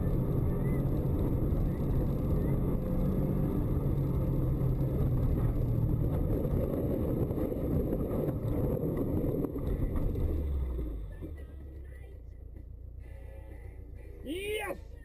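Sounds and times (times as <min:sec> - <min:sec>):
car engine from inside cabin: 0:00.0 - 0:15.0
road noise rumble: 0:00.0 - 0:15.0.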